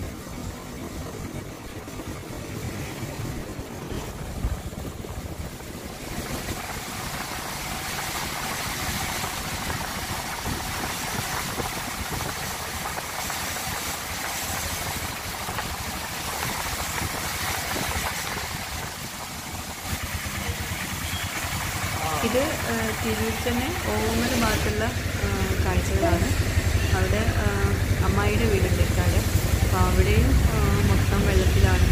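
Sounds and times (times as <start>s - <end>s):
tyres hissing on wet road: 0.0s - 31.9s
vehicle engine rumble: 0.0s - 31.9s.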